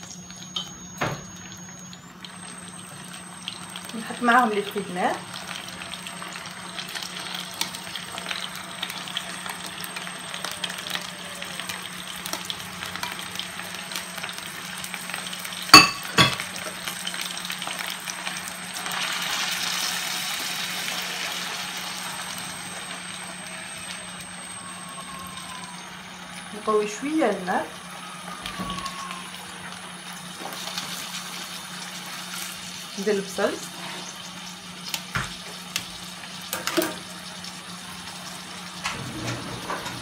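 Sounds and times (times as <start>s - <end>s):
food sizzling in oil: 0.0s - 40.0s.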